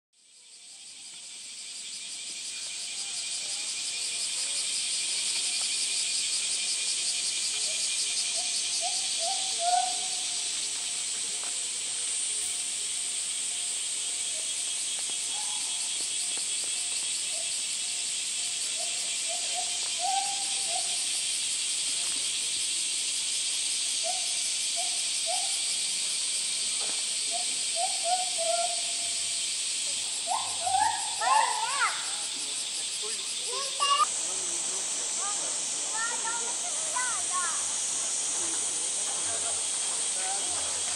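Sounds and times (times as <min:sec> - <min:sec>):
cicadas chorus: 0:00.2 - 0:40.9.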